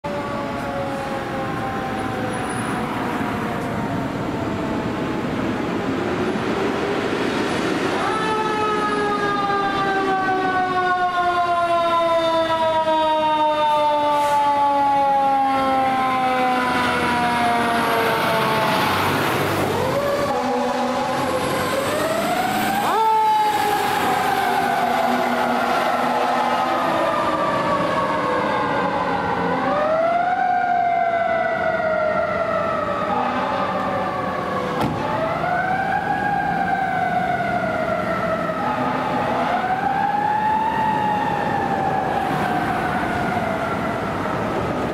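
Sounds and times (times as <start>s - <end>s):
fire truck siren winding: 0.1s - 5.1s, 8.0s - 44.9s.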